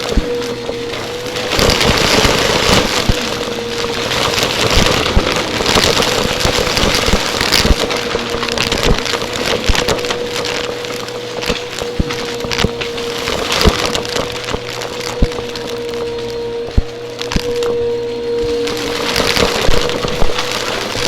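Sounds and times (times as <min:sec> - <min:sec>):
dense crackling clicks: 0:00.0 - 0:21.0
vacuum cleaner motor whine: 0:00.0 - 0:21.0.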